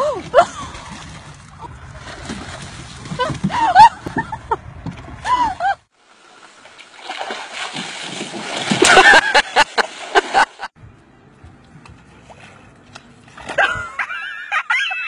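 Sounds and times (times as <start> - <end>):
water splashing and sloshing: 0.0 - 10.8, 11.6 - 14.4.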